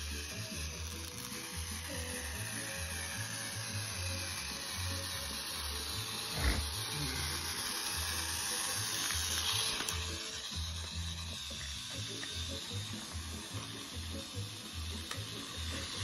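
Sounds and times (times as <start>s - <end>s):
toy train motor whirring: 0.0s - 16.0s.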